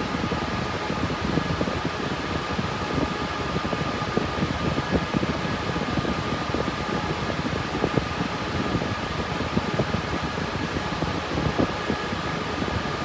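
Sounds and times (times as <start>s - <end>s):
cooling fans running: 0.0s - 13.0s.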